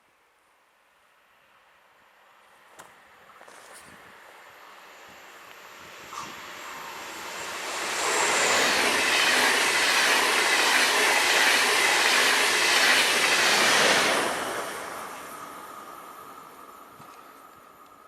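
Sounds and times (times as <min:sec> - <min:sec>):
train wheels on rails: 0:02.8 - 0:18.0.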